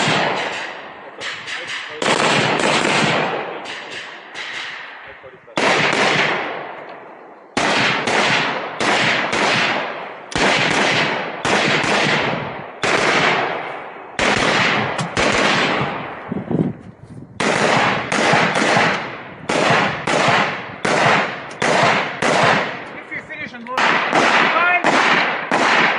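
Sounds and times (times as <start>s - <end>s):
rifle shots echoing: 0.0s - 16.3s, 17.4s - 25.9s.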